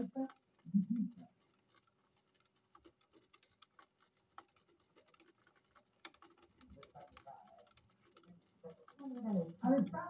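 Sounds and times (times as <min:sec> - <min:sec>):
faint clicks: 0:00.0 - 0:10.0.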